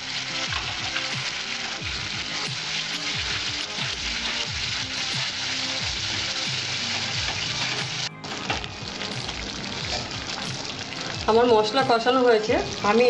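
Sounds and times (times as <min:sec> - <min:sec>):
background music: 0:00.0 - 0:13.0
paste sizzling in hot oil: 0:00.0 - 0:13.0.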